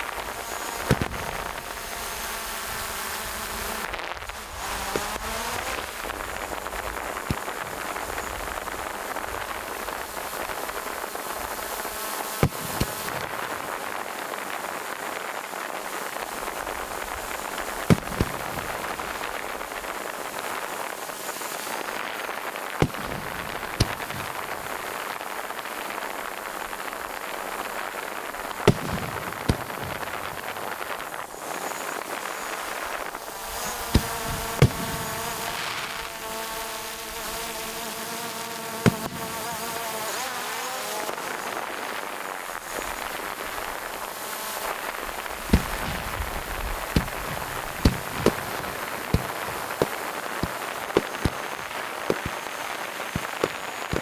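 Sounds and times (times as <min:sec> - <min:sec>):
steady crackling hiss: 0:00.0 - 0:54.0
fireworks bangs: 0:00.1 - 0:38.0, 0:38.8 - 0:54.0.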